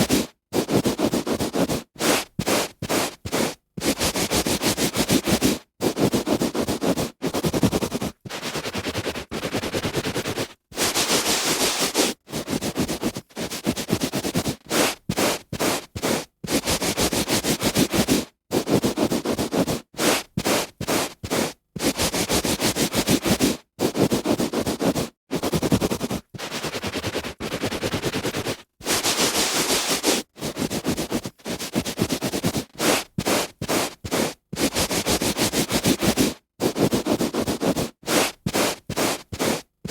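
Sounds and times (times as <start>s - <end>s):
hand rubbing on carpet: 0.0s - 39.9s.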